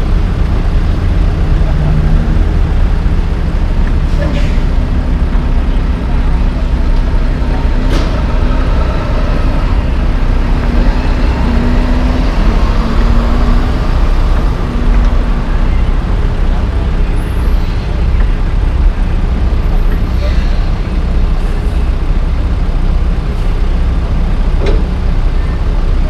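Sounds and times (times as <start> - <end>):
heavy diesel engines running: 0.0 - 26.0.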